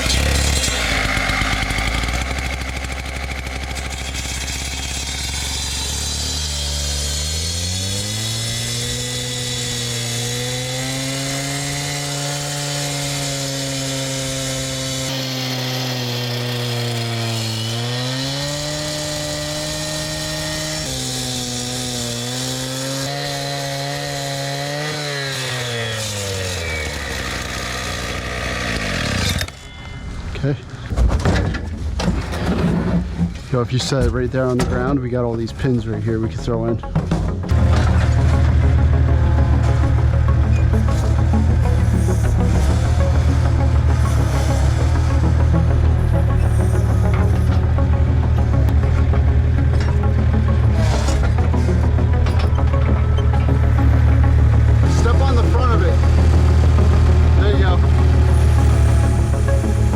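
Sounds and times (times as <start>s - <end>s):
skid steer engine revving: 0.0s - 29.5s, 36.4s - 59.9s.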